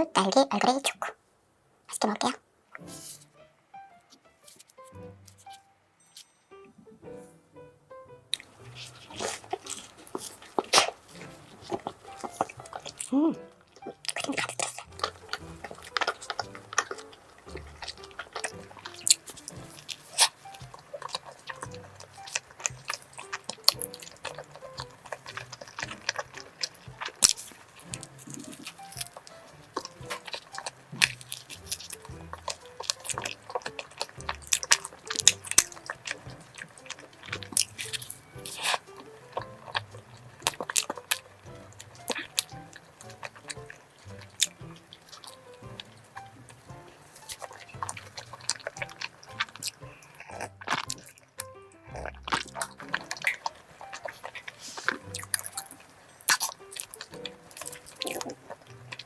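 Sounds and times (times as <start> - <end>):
soft background music: 2.7 - 59.0
crunchy pastry chewing: 8.4 - 59.0.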